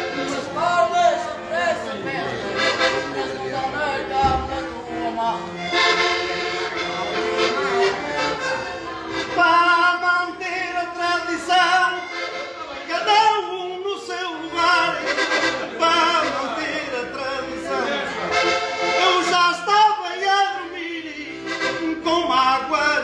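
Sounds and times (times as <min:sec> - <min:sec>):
man singing: 0:00.0 - 0:05.7, 0:09.2 - 0:23.0
button accordion: 0:00.0 - 0:23.0.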